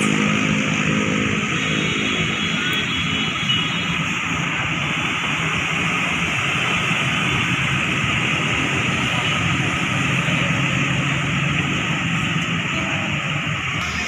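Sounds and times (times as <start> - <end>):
continuous traffic hiss: 0.0 - 14.0.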